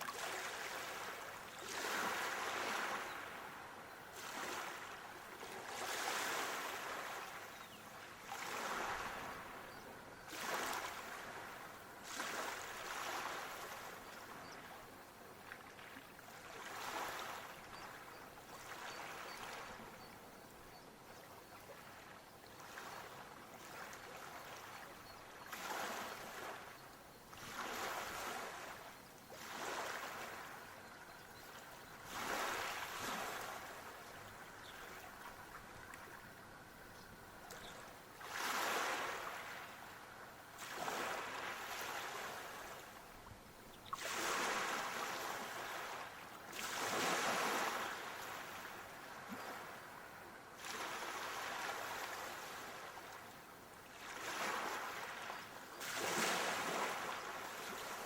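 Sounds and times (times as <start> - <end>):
waves washing on shore: 0.0 - 14.5, 15.7 - 20.0, 22.6 - 26.7, 27.3 - 30.8, 31.5 - 36.6, 37.4 - 43.0, 43.8 - 53.2, 53.9 - 58.0.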